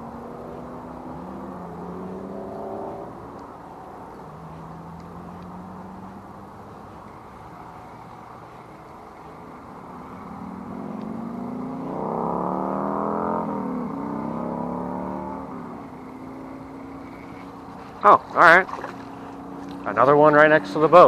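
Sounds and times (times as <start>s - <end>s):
motorboat engine passing by: 0.0s - 21.0s.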